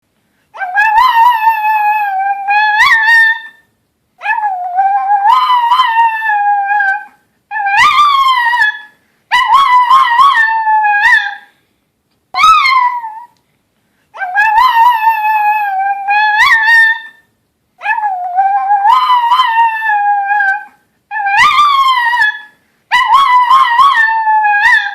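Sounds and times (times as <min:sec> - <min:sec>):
small dog howling: 0:00.6 - 0:03.6, 0:04.2 - 0:11.5, 0:12.4 - 0:13.4, 0:14.2 - 0:17.2, 0:17.8 - 0:24.9.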